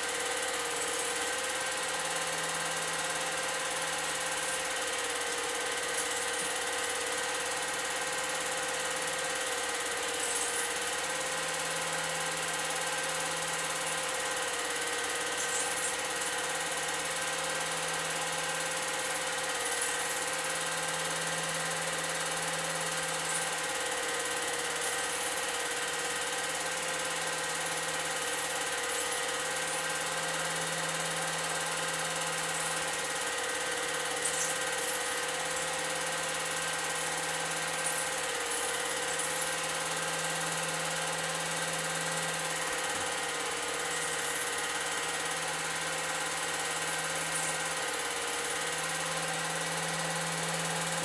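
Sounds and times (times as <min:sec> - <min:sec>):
film projector whirring: 0:00.0 - 0:51.0.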